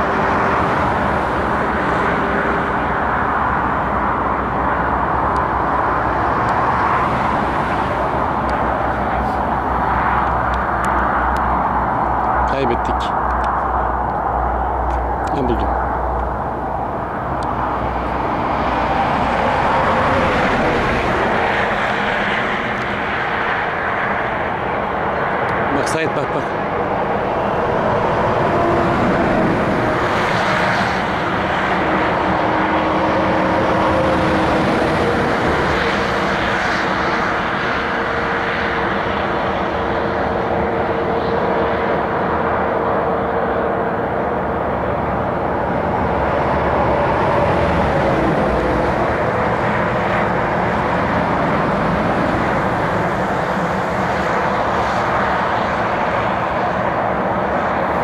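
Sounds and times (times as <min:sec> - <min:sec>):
hum of passing vehicles: 0:00.0 - 0:58.0
motorway traffic: 0:00.0 - 0:58.0.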